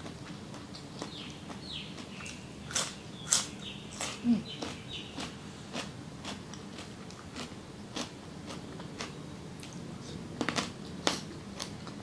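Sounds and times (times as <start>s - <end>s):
person chewing with crunches: 0.0s - 12.0s.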